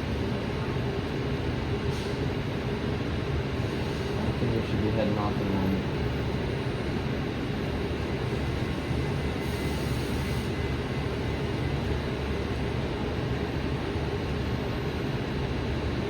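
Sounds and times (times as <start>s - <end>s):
rail car equipment hum: 0.0s - 4.8s, 5.4s - 16.0s.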